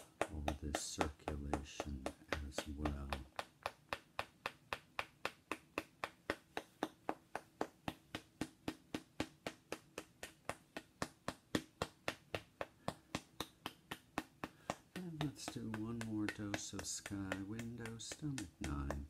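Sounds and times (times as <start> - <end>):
stick tapping a figurine: 0.0 - 19.0.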